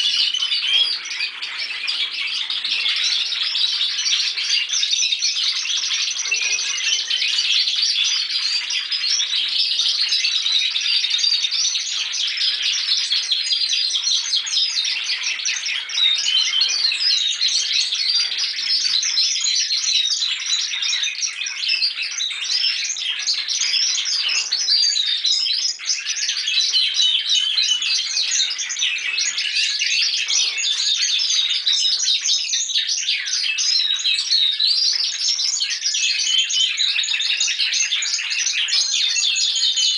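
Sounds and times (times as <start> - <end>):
canaries trilling and warbling: 0.0 - 39.9.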